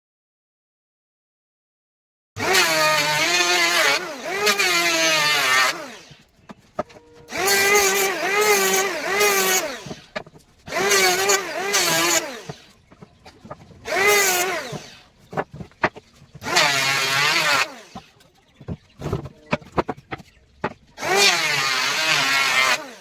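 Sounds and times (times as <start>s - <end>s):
electric power tool cutting wood: 2.4s - 23.0s.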